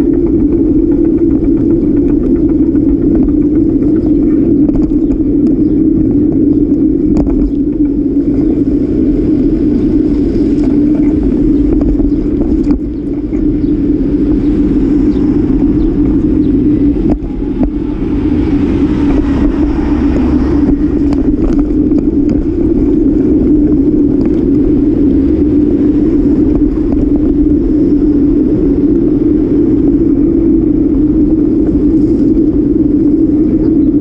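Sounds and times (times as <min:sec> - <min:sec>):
car traffic: 0:00.0 - 0:34.0
wind and road rumble: 0:00.0 - 0:34.0.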